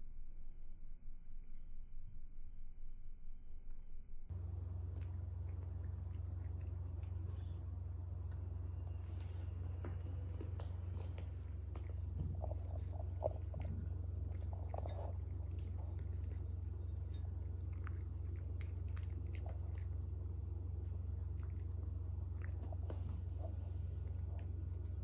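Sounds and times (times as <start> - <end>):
steady low hum: 0.0 - 25.0
cat chewing crunchy food: 4.3 - 25.0.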